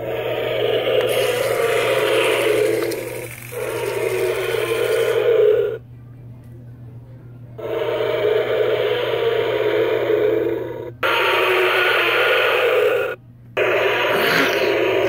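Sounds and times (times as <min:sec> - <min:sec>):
electronic dinosaur roar: 0:00.0 - 0:05.8, 0:07.6 - 0:15.0
low steady hum: 0:00.0 - 0:15.0.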